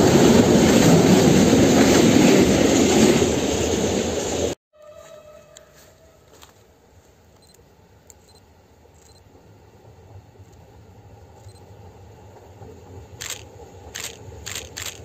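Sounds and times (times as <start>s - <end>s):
distant train rumble: 0.0s - 15.0s.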